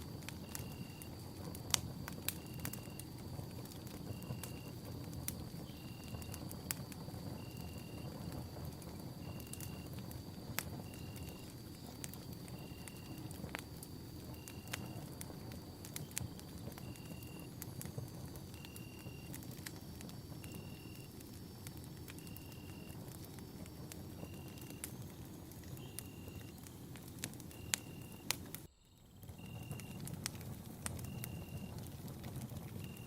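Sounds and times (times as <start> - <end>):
fire flames rumbling: 0.0 - 33.0
wood crackling and popping: 0.0 - 33.0.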